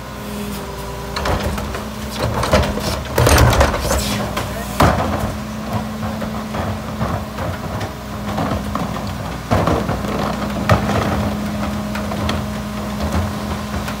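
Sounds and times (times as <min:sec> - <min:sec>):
plastic carts banging on hopper: 0:01.2 - 0:14.0.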